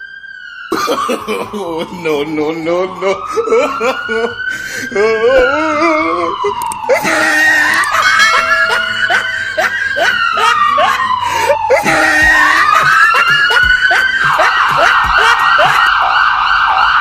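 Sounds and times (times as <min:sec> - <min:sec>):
fake police siren wailing: 0:00.0 - 0:17.0.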